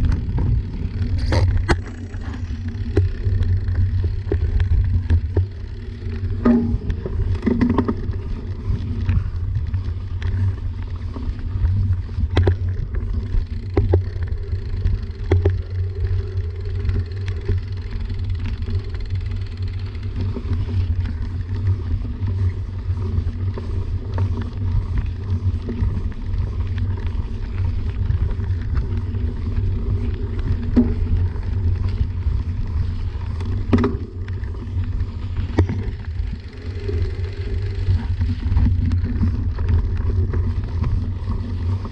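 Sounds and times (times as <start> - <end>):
bike knocking and rattling: 0.0 - 41.9
bike tyres rumbling on dirt: 0.0 - 41.9.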